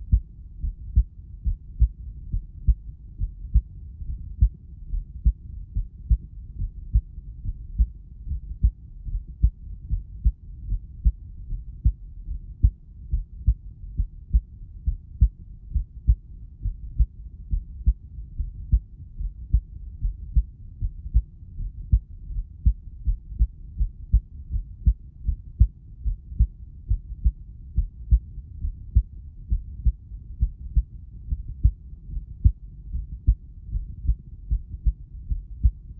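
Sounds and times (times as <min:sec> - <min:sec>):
heartbeat thumps: 0:00.0 - 0:35.9.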